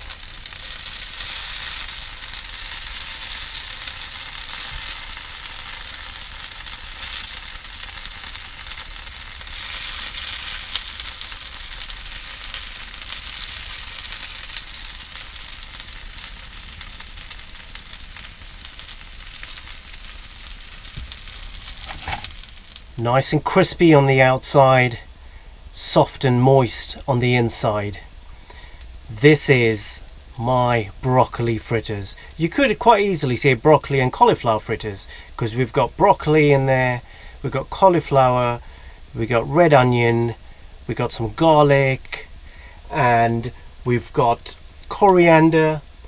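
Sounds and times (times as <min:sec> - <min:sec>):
fritters sizzling in frying pan: 0:00.0 - 0:25.9, 0:26.7 - 0:46.0.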